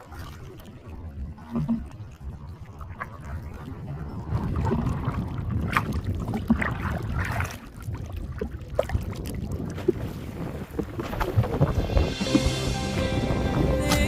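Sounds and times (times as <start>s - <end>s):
lake water sloshing and splashing: 0.0s - 14.0s
wind rumble on microphone: 0.0s - 14.0s.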